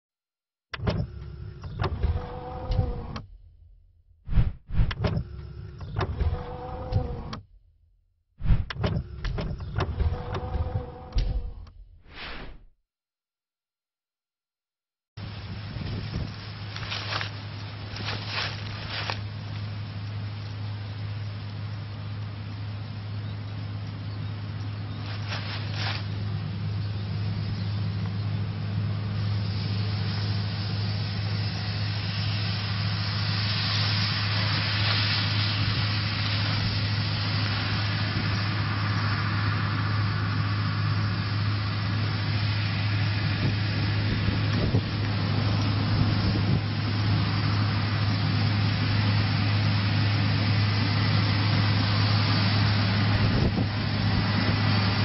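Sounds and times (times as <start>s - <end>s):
diesel farm machinery droning: 0.7s - 12.0s, 15.2s - 55.0s.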